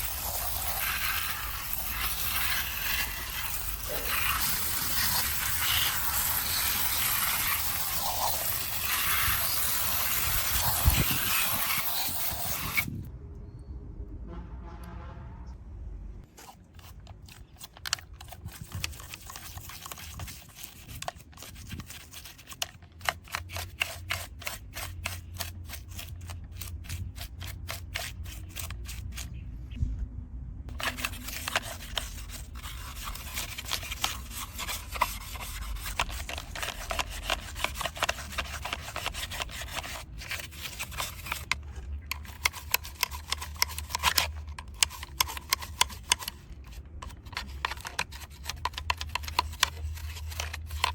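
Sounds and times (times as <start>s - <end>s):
hands rubbing and scraping model: 0.0s - 12.9s, 16.2s - 29.4s, 30.7s - 50.9s.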